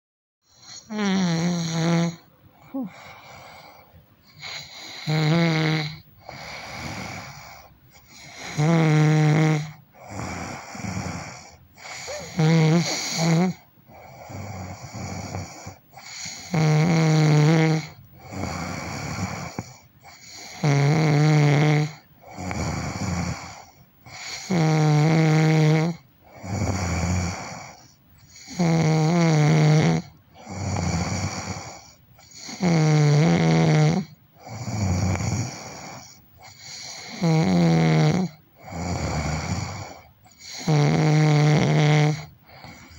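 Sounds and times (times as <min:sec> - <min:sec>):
person snoring loudly: 0:00.5 - 0:42.9.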